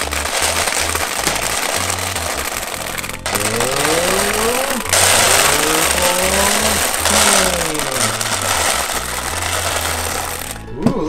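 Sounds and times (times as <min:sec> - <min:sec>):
gumballs rattling into plastic globe: 0:00.0 - 0:10.6
background music with bass beat: 0:00.0 - 0:10.8.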